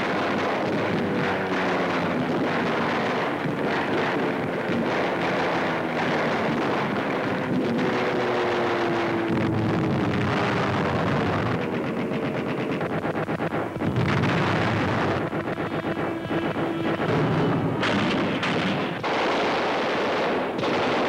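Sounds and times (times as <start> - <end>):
aircraft engine drone: 0.0 - 21.0
anti-aircraft gunfire rattling: 0.0 - 21.0
heavy blast: 0.0 - 21.0.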